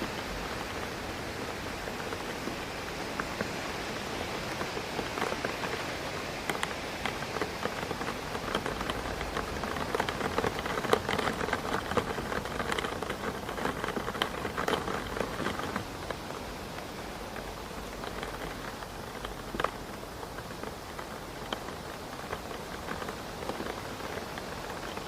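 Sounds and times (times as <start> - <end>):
rain drops ticking on window: 0.0 - 25.0
wind through trees: 0.0 - 25.0.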